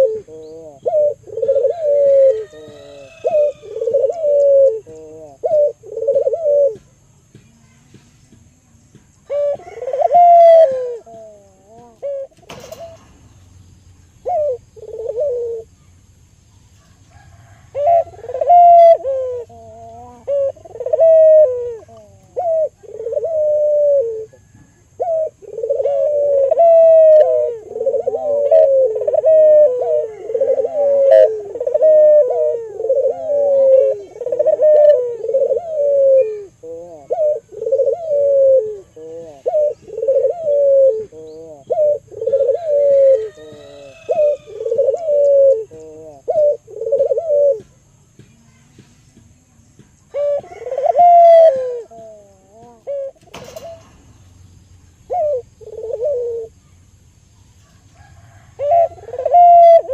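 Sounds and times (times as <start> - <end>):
dove cooing: 0.0 - 8.0, 9.0 - 15.8, 16.7 - 48.8, 49.8 - 56.9, 57.5 - 59.9.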